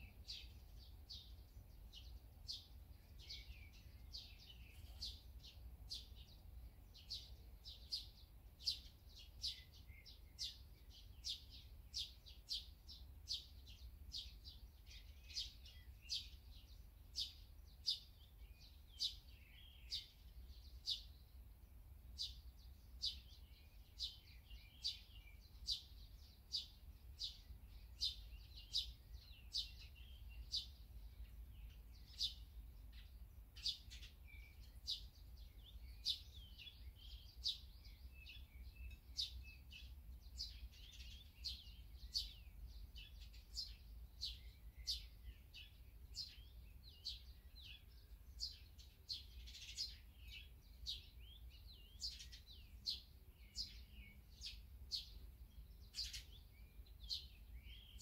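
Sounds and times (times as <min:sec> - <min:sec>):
small songbird chirping: 0:00.0 - 0:58.0.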